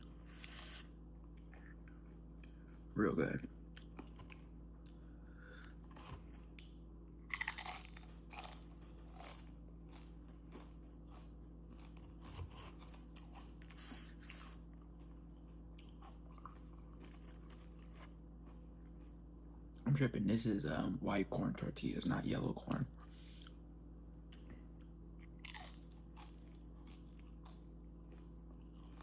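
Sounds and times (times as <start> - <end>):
chewing crunchy chips: 0.0 - 2.9, 3.6 - 19.9, 24.2 - 29.0.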